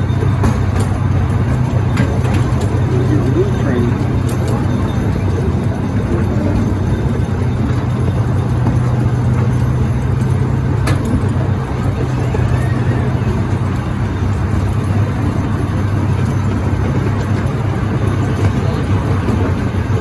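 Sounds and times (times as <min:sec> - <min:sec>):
low engine drone: 0:00.0 - 0:20.0
train running noise: 0:00.0 - 0:20.0.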